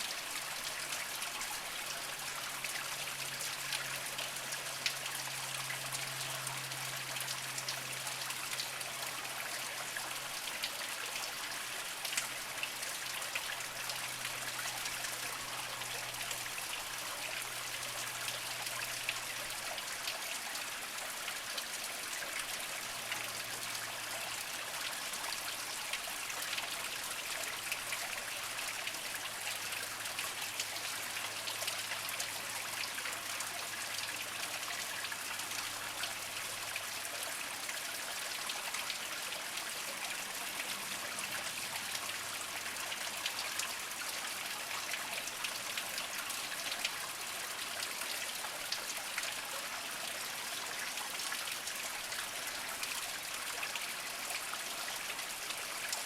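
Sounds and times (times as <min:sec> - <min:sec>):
tiny water drips and splashes: 0:00.0 - 0:56.0
water trickling over rocks: 0:00.0 - 0:56.0.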